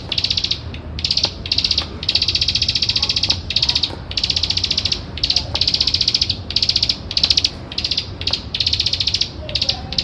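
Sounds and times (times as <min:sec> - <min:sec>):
bird giving dry clicking trills: 0:00.0 - 0:10.0.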